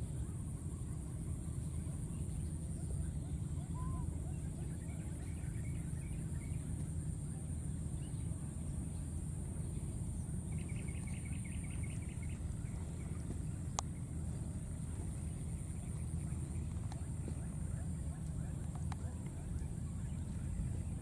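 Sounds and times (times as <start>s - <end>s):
constant high drone: 0.0s - 21.0s
steady low rumble: 0.0s - 21.0s.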